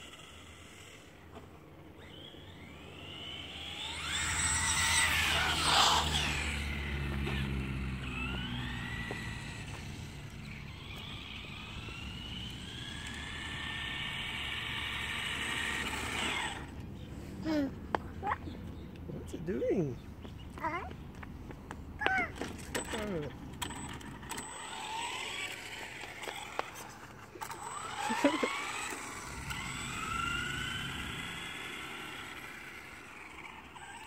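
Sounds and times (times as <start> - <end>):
toy car motor whining: 0.0 - 17.7, 22.0 - 34.0
wheels rumbling: 0.0 - 34.0.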